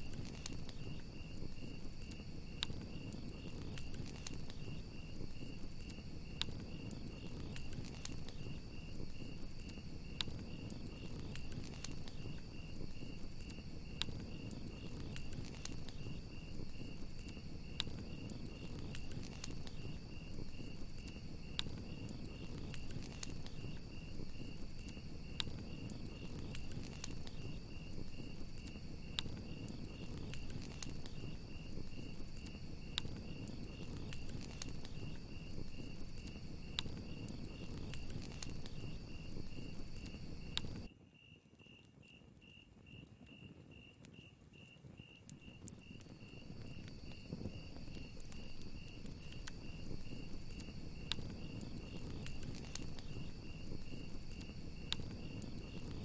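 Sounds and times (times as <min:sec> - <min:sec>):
campfire crackling and popping: 0:00.0 - 0:41.0, 0:41.8 - 0:56.0
crickets chirping: 0:00.0 - 0:56.0.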